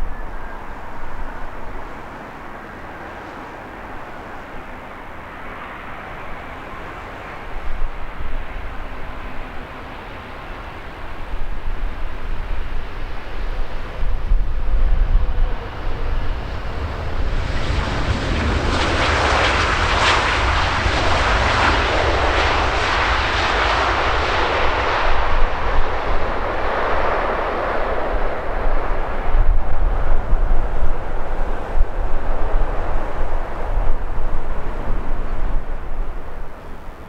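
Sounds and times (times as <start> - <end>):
jet airliner passing: 0.0 - 37.0.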